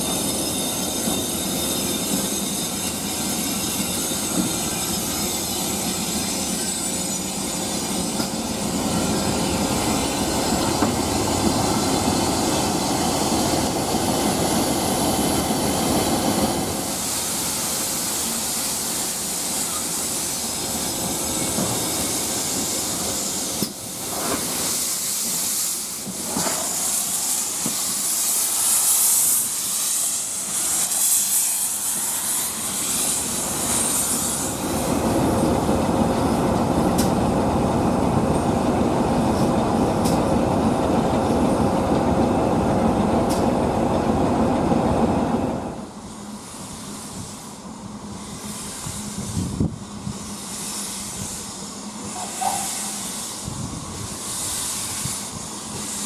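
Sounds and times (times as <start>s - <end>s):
loud hiss of steam: 0.0s - 56.0s
train wheels rumbling on rail: 0.0s - 56.0s.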